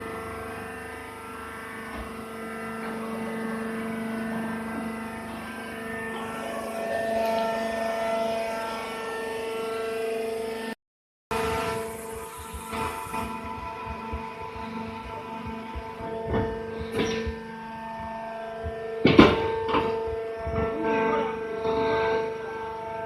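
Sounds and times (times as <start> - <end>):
baler machine hum: 0.0 - 23.0.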